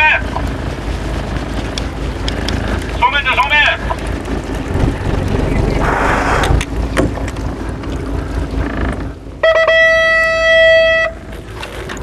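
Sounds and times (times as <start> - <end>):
boat noise: 0.0 - 12.0
wind: 0.0 - 12.0.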